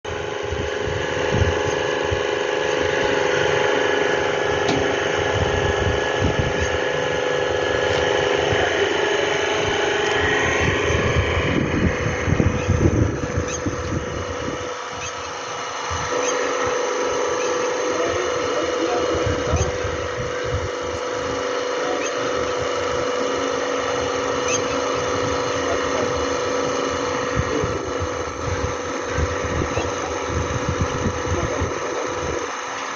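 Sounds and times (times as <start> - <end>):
hydraulic power pack humming: 0.0 - 32.9.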